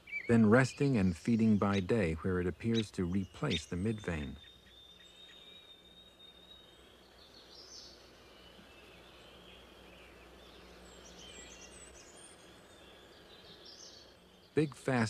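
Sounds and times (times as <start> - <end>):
high bird chirps: 0.0 - 14.7
faint outdoor ambience: 0.0 - 15.0.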